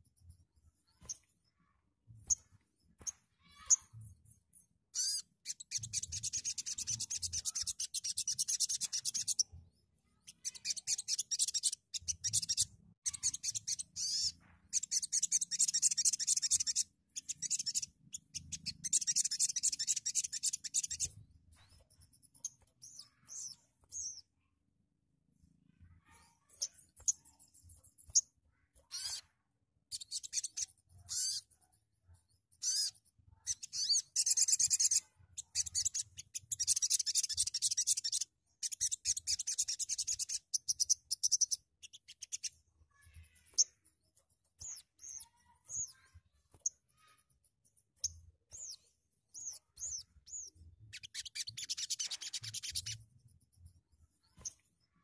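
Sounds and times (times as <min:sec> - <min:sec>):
sunbird trilling and chirping: 0:02.1 - 0:24.3, 0:26.0 - 0:29.3, 0:29.9 - 0:31.6, 0:32.5 - 0:54.9.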